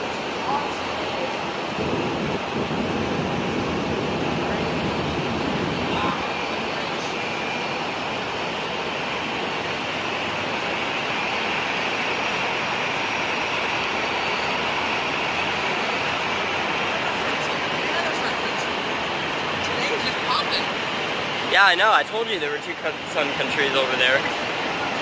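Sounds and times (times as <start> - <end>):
jet engine rushing: 0.0 - 25.0.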